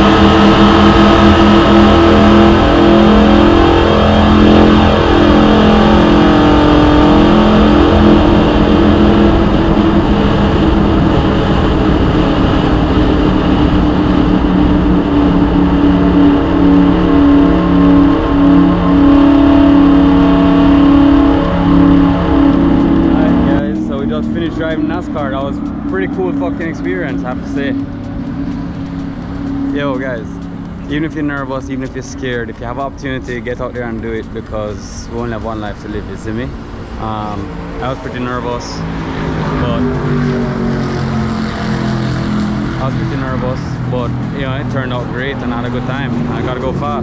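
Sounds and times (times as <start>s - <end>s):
race car engine running hard: 0.0s - 47.0s.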